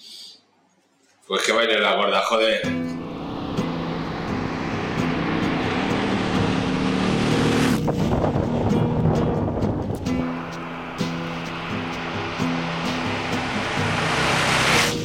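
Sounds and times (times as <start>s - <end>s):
motorcycle passing by: 2.6s - 15.0s
rush of air: 2.8s - 15.0s.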